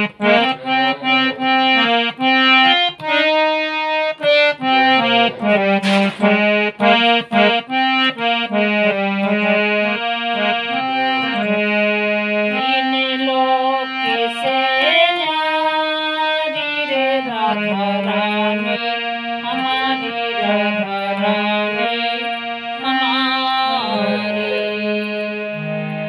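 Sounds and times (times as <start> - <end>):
harmonium melody: 0.0 - 26.0.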